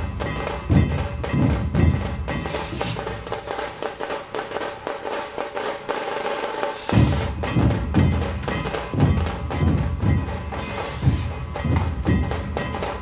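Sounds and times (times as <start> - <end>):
background music with percussion beat: 0.0 - 13.0.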